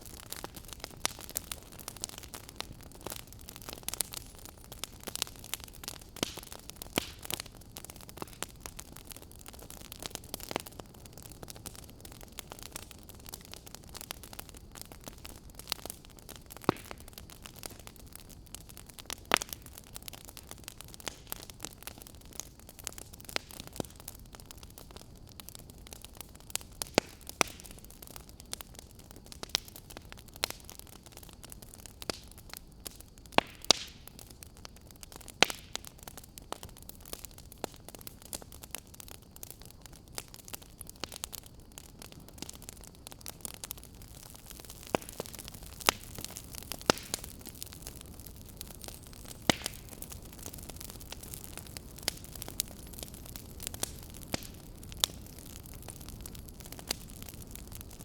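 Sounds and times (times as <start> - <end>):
low steady hiss: 0.0 - 58.0
wood fire crackling: 0.0 - 58.0.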